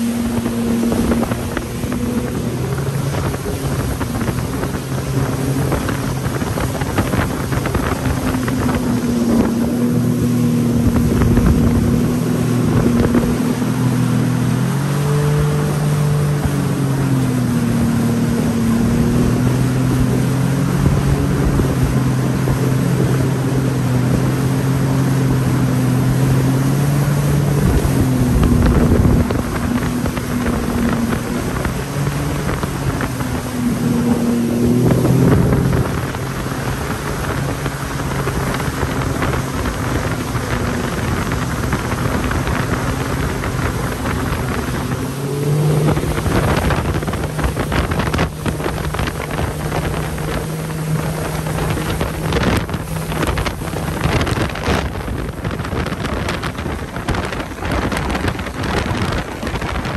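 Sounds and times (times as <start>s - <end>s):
jet ski engine running: 0.0s - 59.9s
wind on microphone: 0.0s - 59.9s.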